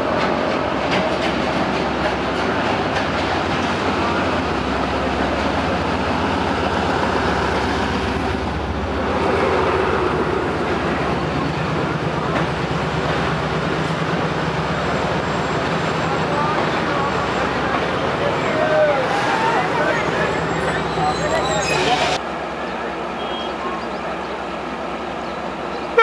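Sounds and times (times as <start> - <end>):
diesel locomotive engine running: 0.0 - 26.0
train wheels rumbling on rails: 0.0 - 26.0.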